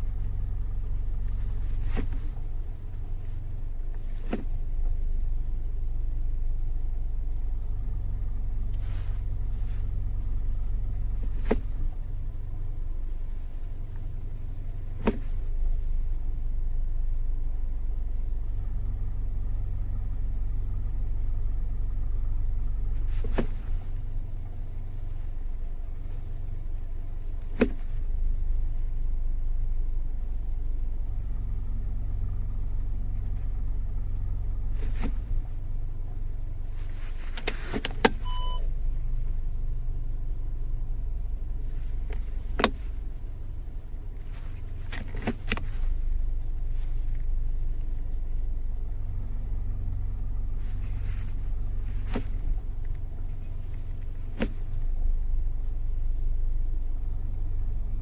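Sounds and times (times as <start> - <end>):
low running hum: 0.0 - 58.0.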